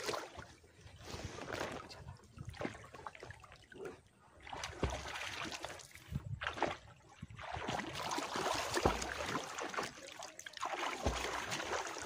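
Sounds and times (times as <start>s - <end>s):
river water sloshing and splashing: 0.0s - 12.0s.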